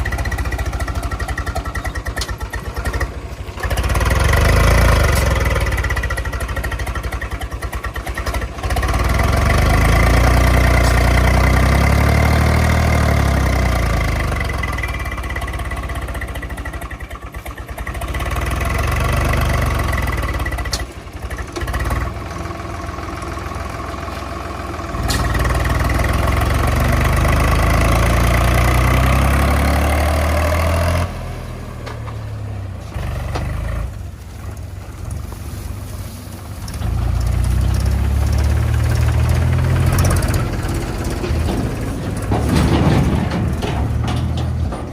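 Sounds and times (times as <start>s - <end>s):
diesel engine revving under load: 0.0s - 44.9s.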